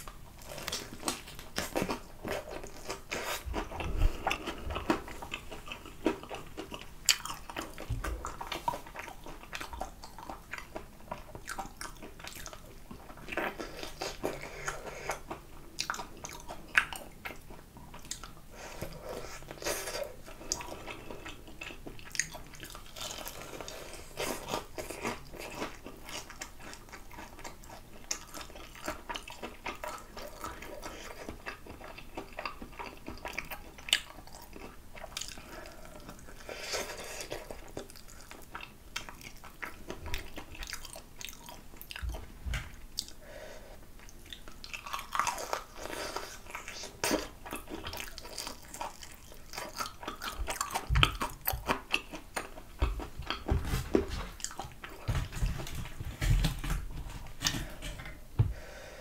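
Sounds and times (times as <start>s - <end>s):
person chewing fried chicken: 0.0s - 58.7s.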